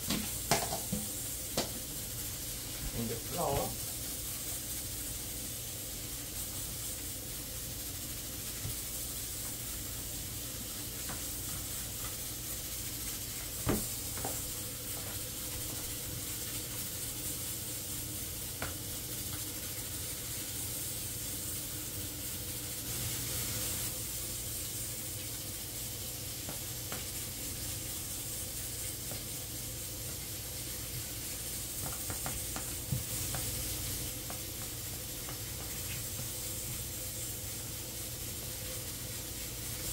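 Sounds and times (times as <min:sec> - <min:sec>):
oil sizzling in pots: 0:00.0 - 0:39.9.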